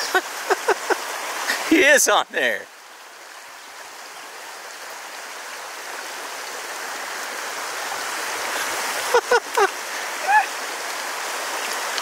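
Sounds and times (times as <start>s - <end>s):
creek running over rocks: 0.0s - 12.0s.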